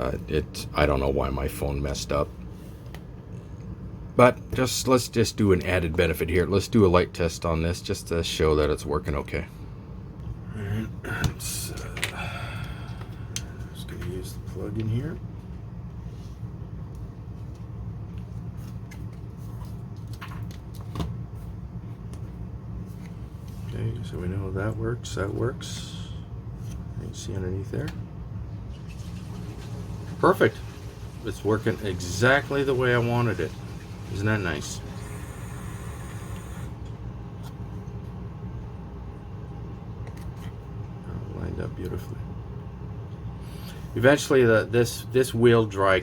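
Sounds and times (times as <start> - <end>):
low background hum and rumble: 0.0 - 46.0.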